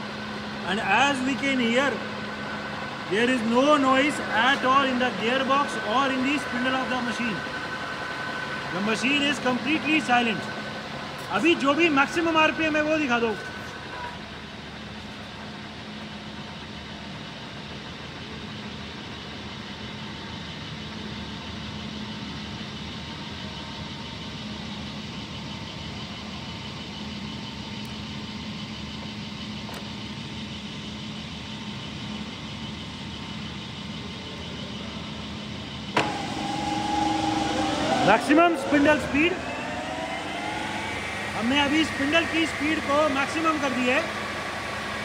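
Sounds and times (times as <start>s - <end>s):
lathe gearbox humming: 0.0s - 45.0s.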